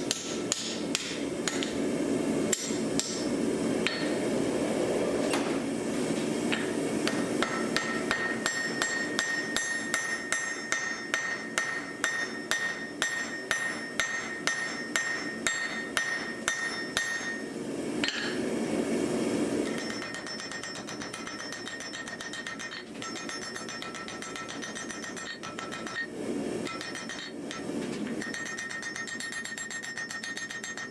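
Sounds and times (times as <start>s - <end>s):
hammer striking metal on anvil: 0.0s - 1.8s, 2.5s - 4.2s, 6.5s - 18.4s, 19.6s - 30.9s.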